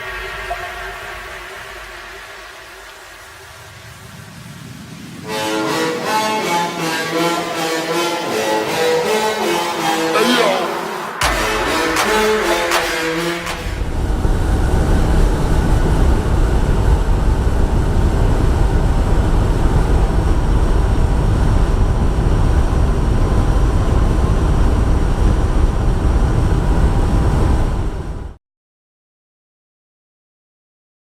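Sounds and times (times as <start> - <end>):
music: 0.0 - 28.4.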